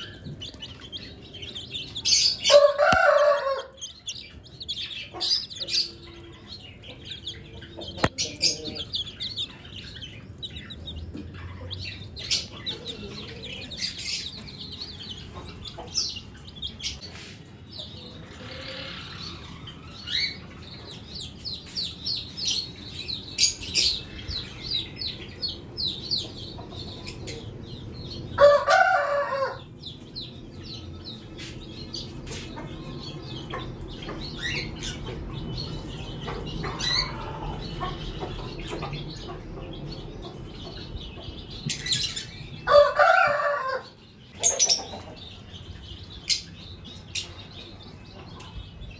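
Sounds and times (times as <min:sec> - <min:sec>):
budgerigars chattering: 0:00.0 - 0:28.6, 0:29.8 - 0:42.8, 0:44.1 - 0:48.6.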